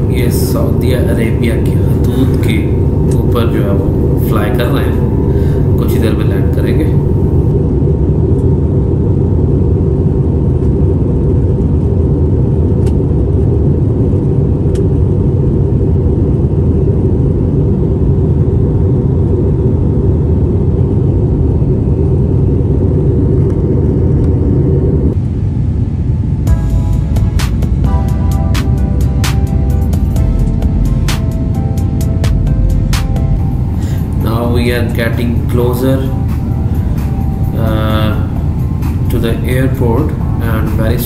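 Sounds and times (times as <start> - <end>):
airliner cabin engine rumble: 0.0 - 41.0
faint steady hum: 0.0 - 41.0.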